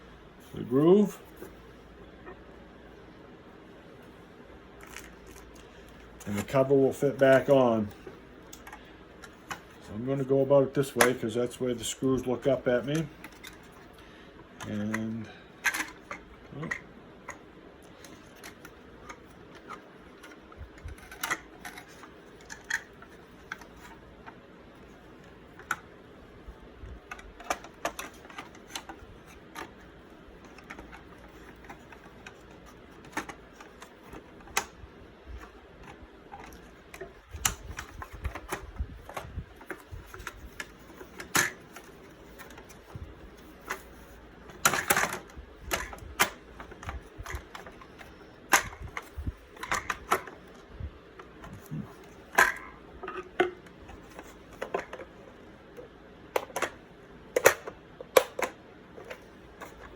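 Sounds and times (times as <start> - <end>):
plastic parts clicking and tapping: 4.8 - 9.8, 12.2 - 24.4, 25.2 - 25.9, 26.9 - 59.9.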